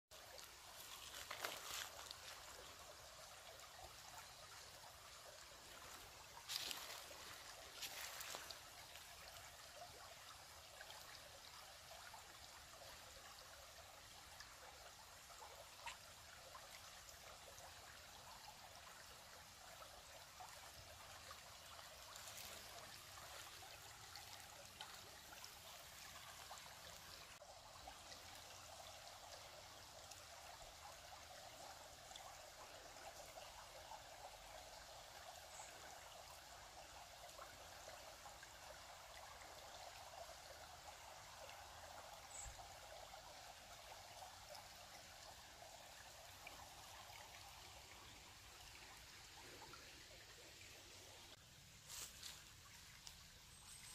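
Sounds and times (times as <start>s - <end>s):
brook trickling over stones: 0.1s - 53.9s.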